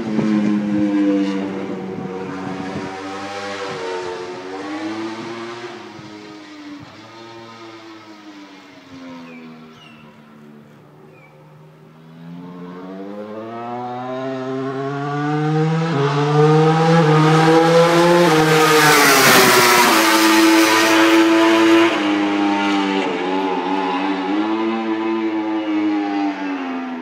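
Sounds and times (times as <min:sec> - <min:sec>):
racing motorcycle accelerating: 0:00.0 - 0:27.0.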